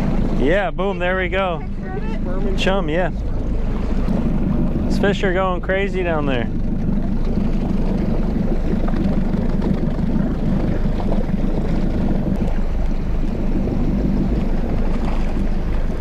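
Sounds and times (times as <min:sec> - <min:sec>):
water moving around boat hull: 0:00.0 - 0:16.0
wind rumble on microphone: 0:00.0 - 0:16.0.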